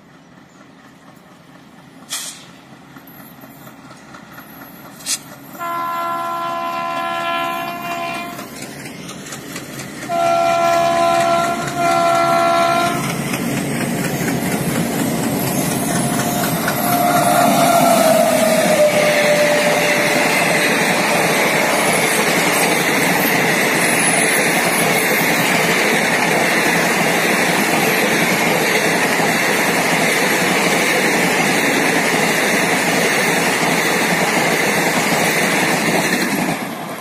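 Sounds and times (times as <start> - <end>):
train rushing past: 0.0 - 37.0.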